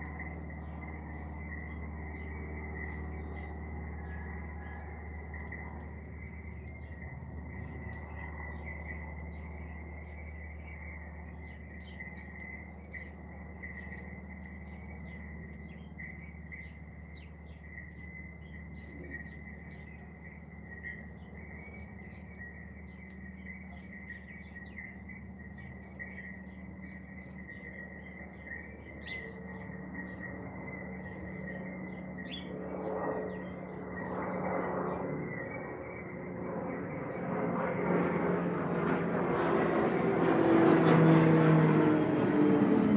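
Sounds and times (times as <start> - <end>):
birds chirping: 0.0 - 40.0
low hum: 0.0 - 42.9.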